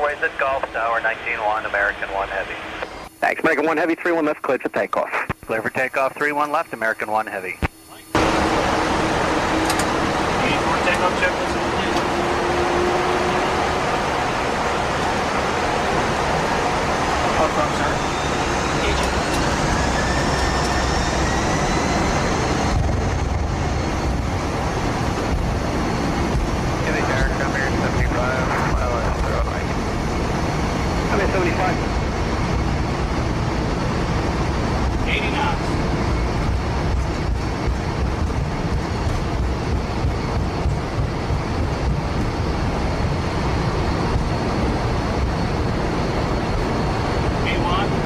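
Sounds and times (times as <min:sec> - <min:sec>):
jet engines roaring: 0:00.0 - 0:04.6, 0:05.2 - 0:48.0
high engine whine: 0:00.0 - 0:48.0.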